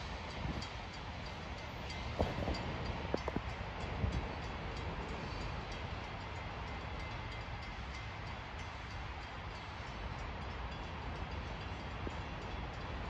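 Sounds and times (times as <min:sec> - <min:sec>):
distant diesel locomotive rumble: 0:00.0 - 0:13.0.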